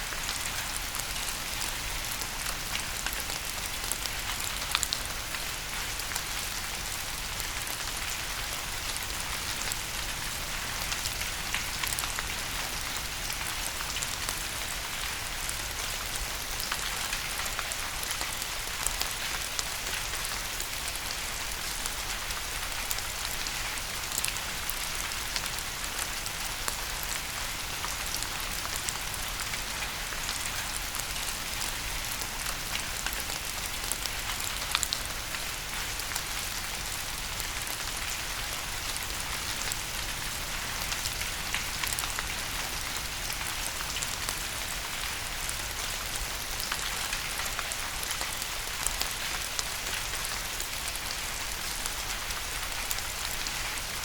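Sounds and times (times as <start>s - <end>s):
steady rain hiss: 0.0s - 54.0s
raindrops ticking on a surface: 0.1s - 54.0s.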